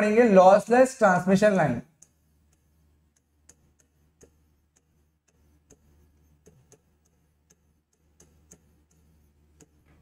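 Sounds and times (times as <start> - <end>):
low steady hum: 0.0 - 10.0
stylus tapping writing board: 1.9 - 10.0.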